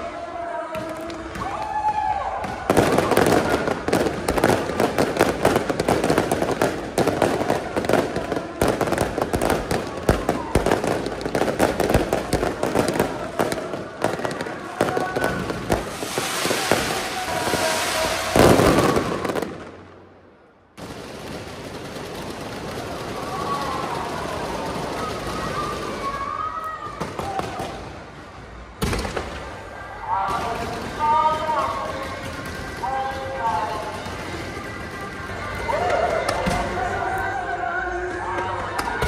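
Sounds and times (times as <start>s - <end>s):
fireworks crackling: 0.8s - 38.0s.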